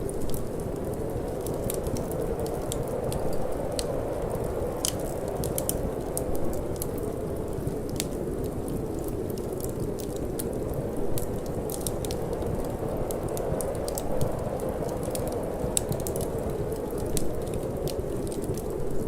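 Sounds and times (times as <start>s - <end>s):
low rush of wind and flame: 0.0s - 19.0s
wood fire crackling and popping: 0.0s - 19.0s.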